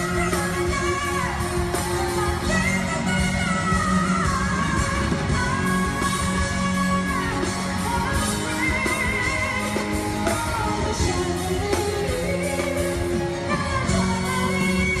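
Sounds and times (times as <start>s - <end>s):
band playing: 0.0s - 15.0s
woman singing: 0.0s - 15.0s.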